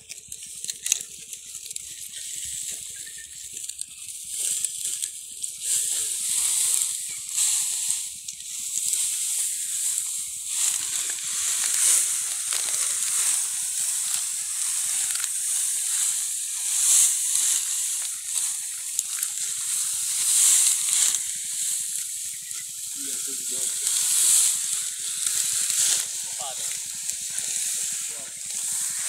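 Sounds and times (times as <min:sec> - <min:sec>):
sickles cutting wheat: 0:00.0 - 0:29.0
wheat stalks rustling: 0:00.0 - 0:29.0.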